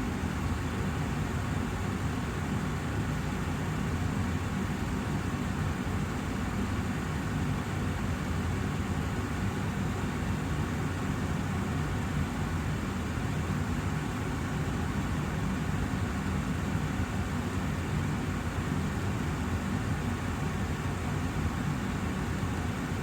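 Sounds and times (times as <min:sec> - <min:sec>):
air purifier fan running: 0:00.0 - 0:23.0.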